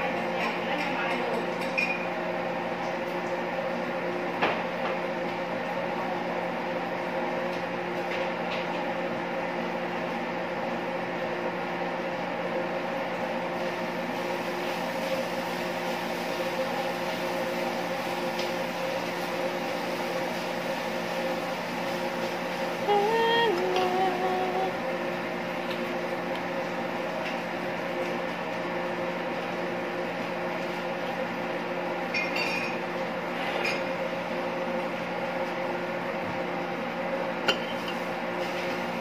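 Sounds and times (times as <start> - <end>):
kitchen equipment humming: 0.0 - 39.0.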